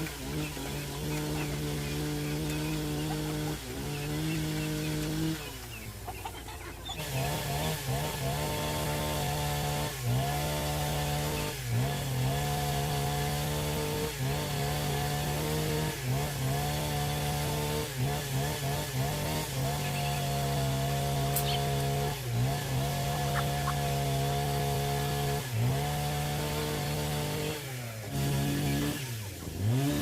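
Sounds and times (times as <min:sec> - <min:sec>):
power saw cutting wood: 0:00.0 - 0:30.0.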